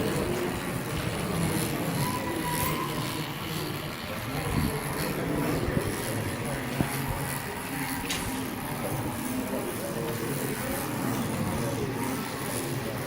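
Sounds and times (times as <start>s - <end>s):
hubbub of background chatter: 0.0s - 13.0s.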